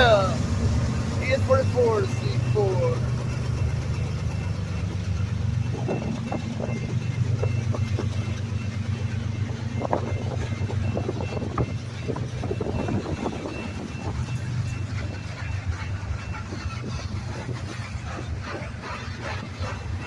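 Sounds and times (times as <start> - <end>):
diesel train rumble: 0.0 - 20.0
train wheels clicking and clanking: 0.0 - 20.0.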